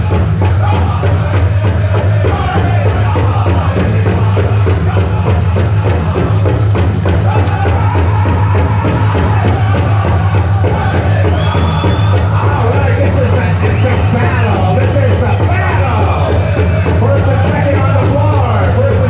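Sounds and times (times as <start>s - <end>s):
big drum pounding: 0.0s - 19.0s
group singing: 0.0s - 19.0s.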